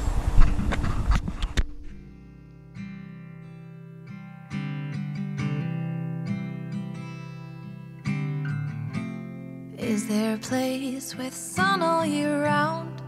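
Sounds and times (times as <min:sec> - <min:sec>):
strummed acoustic guitar: 0:00.3 - 0:13.0.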